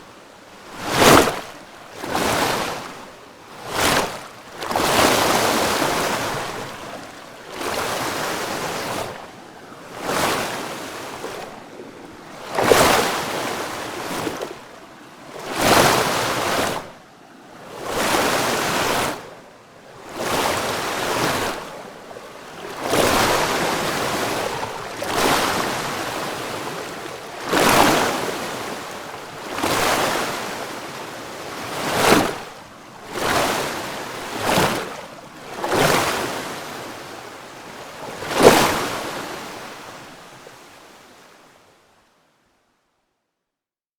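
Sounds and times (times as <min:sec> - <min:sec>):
rushing water surges: 0:00.7 - 0:14.7, 0:15.3 - 0:17.0, 0:20.0 - 0:37.0, 0:37.8 - 0:40.7.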